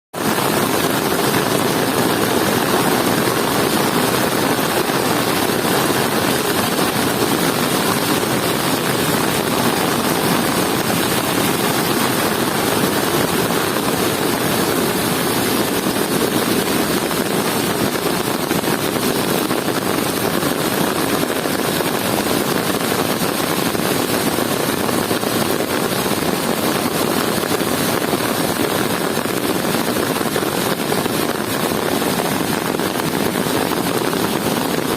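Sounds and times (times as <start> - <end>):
river water rushing: 0.2 - 30.1.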